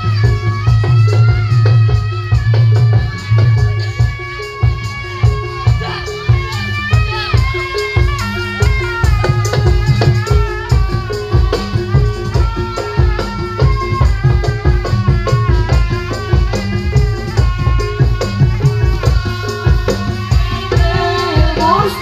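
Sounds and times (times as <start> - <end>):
drums beating fast rhythm: 0.0 - 22.0
rattling percussion: 0.0 - 22.0.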